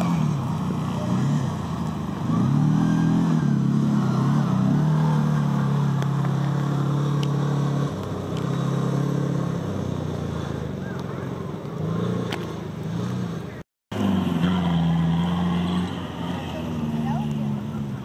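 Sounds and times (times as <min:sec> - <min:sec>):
quad bike engine revving: 0:00.0 - 0:18.0.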